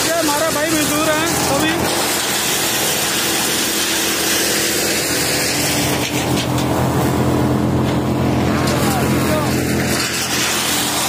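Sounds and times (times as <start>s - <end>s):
engine humming: 0.0s - 11.0s
wood chipper shredding branches: 0.0s - 11.0s.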